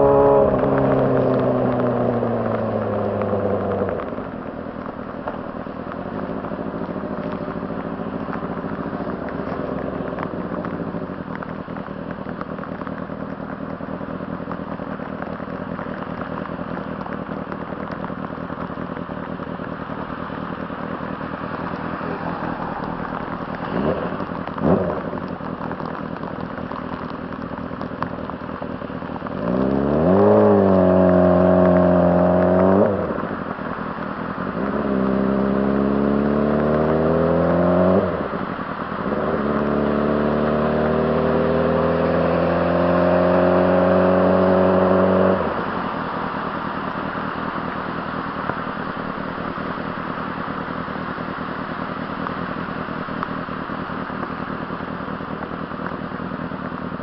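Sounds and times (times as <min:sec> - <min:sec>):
motorcycle engine revving: 0:00.0 - 0:51.3.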